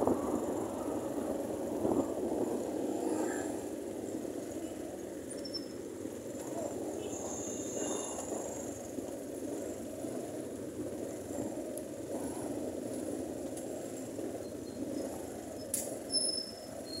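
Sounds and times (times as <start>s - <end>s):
motorcycle engine running: 0.0s - 16.1s
wind and road noise: 0.0s - 17.0s.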